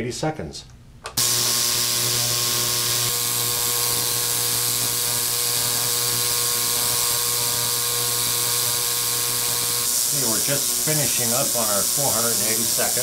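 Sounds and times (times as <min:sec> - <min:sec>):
ultrasonic cleaner buzzing with hiss: 0:01.2 - 0:13.0.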